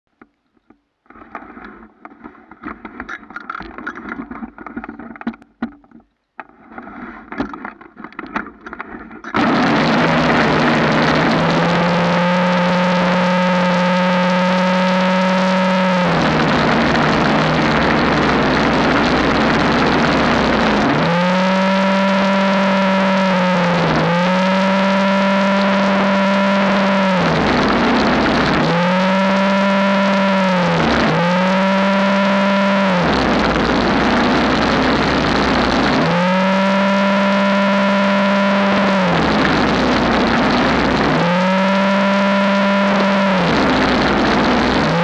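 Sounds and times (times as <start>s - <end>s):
snowblower engine droning: 8.8s - 45.0s.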